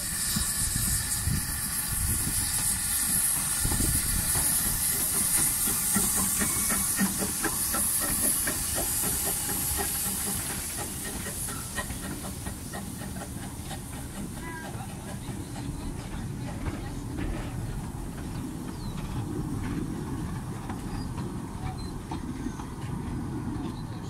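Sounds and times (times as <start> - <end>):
steam locomotive hissing: 0.0 - 24.0
wheels clicking over rail joints: 3.4 - 24.0.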